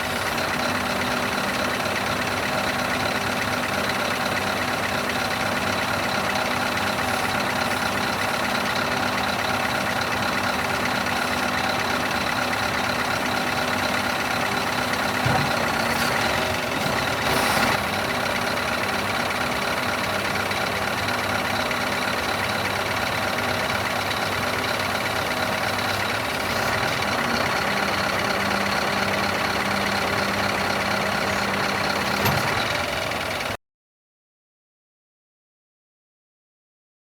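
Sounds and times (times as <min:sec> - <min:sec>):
truck diesel engine idling: 0:00.0 - 0:33.6.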